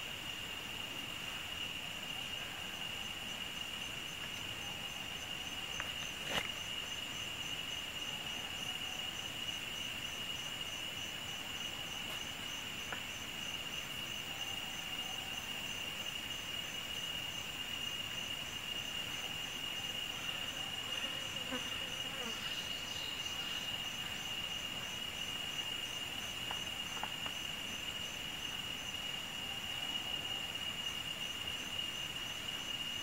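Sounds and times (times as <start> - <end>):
insects droning: 0.0 - 33.0
pulsing insect chirp: 0.0 - 33.0.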